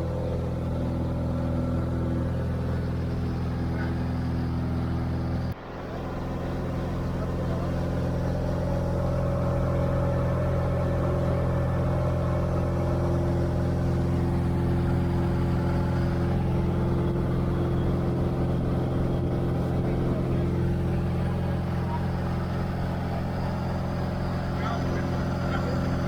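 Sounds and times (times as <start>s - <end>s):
propeller plane engine running: 0.0s - 26.0s.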